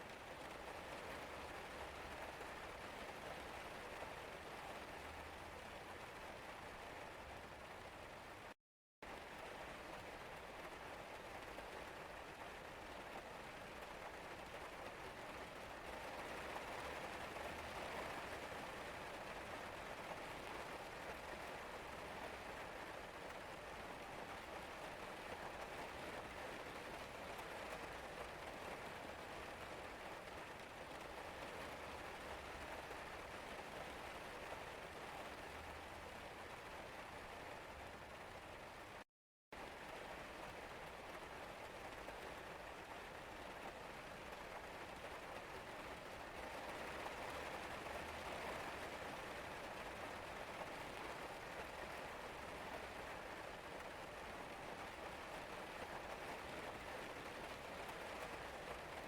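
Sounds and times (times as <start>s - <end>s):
steady rain falling: 0.0s - 39.0s, 39.6s - 59.0s.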